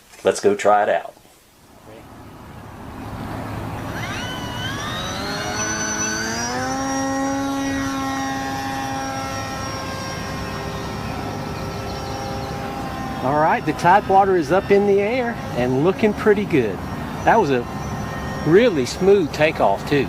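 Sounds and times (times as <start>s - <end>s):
electric motor and propeller whine: 2.0s - 20.0s.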